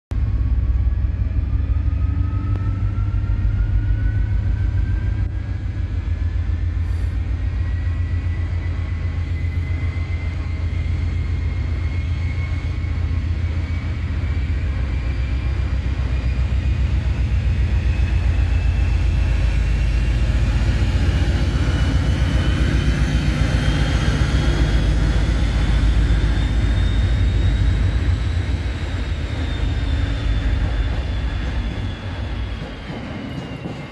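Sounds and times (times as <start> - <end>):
diesel locomotive engine throbbing: 0.1 - 33.9
high whistle rising in pitch: 0.6 - 5.4, 6.8 - 33.9.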